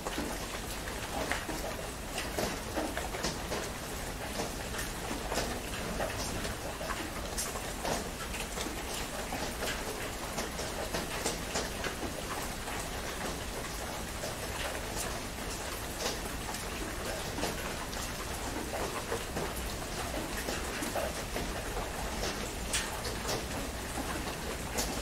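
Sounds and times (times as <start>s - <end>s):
heavy rain on a tent: 0.0s - 25.0s.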